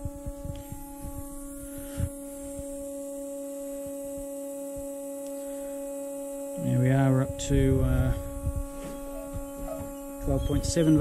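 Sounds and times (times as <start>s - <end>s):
electric fuel pump hum: 0.0s - 11.0s.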